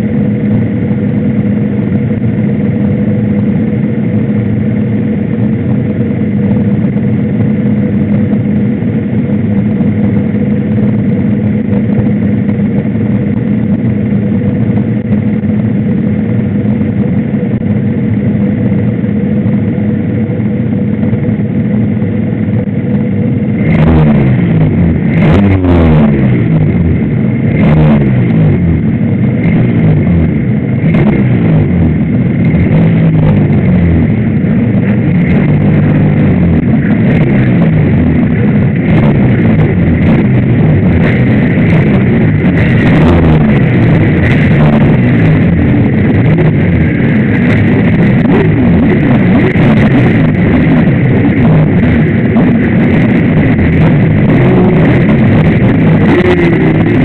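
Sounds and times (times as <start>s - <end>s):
other motorcycle engines: 0.0s - 57.0s
two-stroke motorcycle engine revving: 0.0s - 57.0s.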